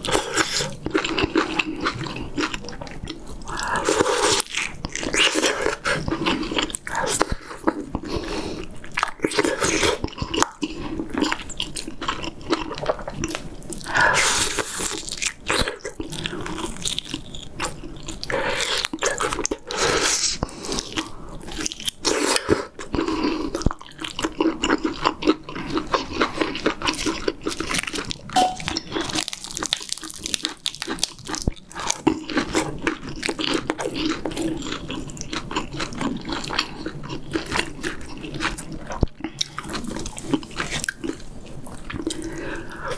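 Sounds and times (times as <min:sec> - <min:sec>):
man chewing with wet smacking: 0:00.0 - 0:42.9.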